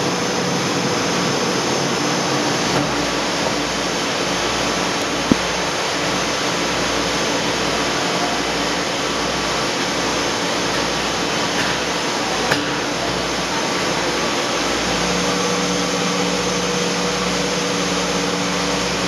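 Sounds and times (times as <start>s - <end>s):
mill machinery running: 0.0s - 19.0s.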